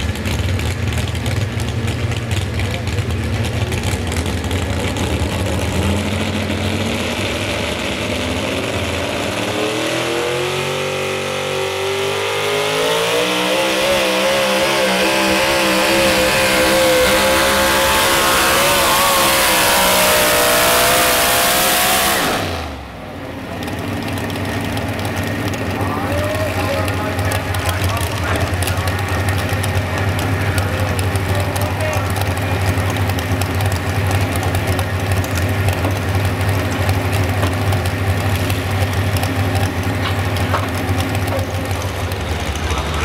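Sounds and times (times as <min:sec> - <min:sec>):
truck engine at full throttle: 0:00.0 - 0:43.0.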